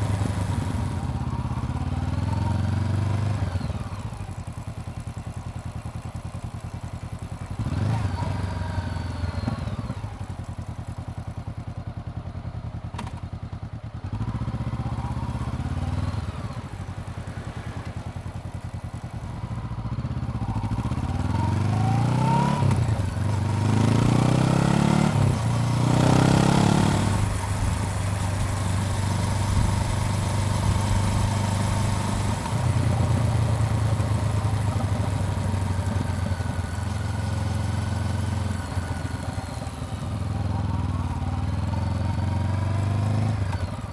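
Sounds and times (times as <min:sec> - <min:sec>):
motorcycle engine revving: 0:00.0 - 0:11.7, 0:12.8 - 0:43.9.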